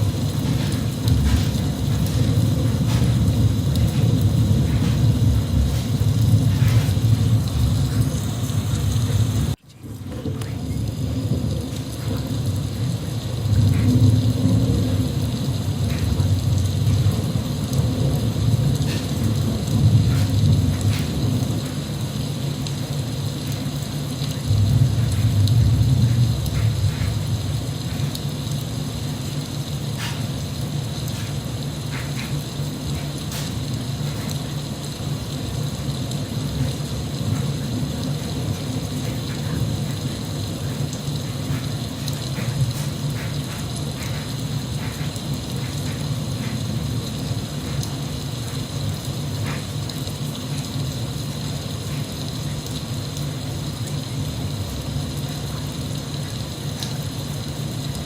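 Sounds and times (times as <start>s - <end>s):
raindrops tapping: 0.0s - 58.0s
steady rain: 0.0s - 58.0s.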